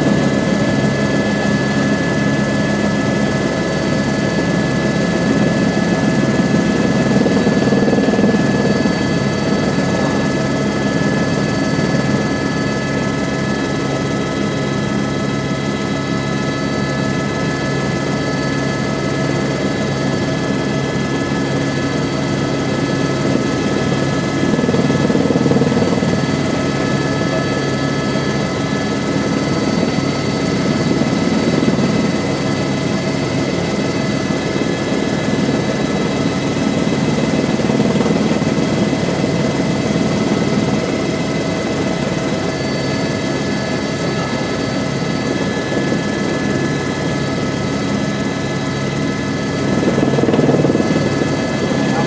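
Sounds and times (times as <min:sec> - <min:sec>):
helicopter drone with whine: 0:00.0 - 0:52.0.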